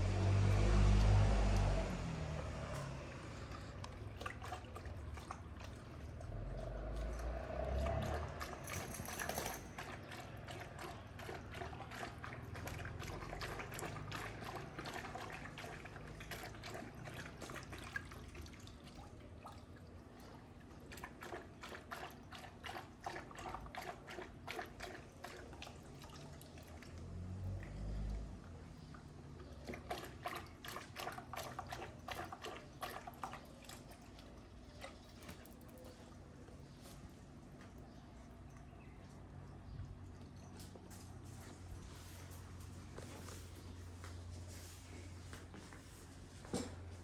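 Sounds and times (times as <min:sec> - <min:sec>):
dogs lapping water: 0:00.0 - 0:47.0.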